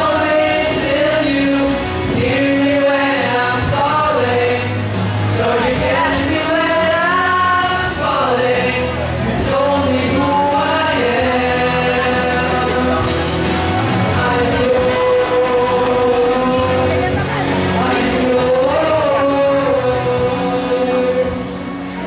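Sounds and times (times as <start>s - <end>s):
young men singing: 0.0s - 21.7s
instrumental accompaniment: 0.0s - 22.0s.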